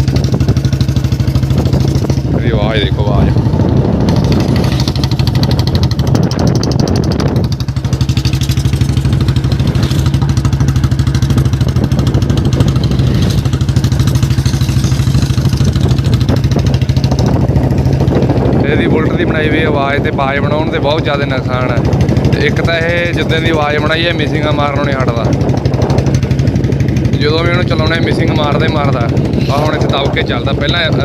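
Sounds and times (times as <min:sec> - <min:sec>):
motorcycle engine thumping: 0:00.0 - 0:18.9, 0:24.6 - 0:31.0.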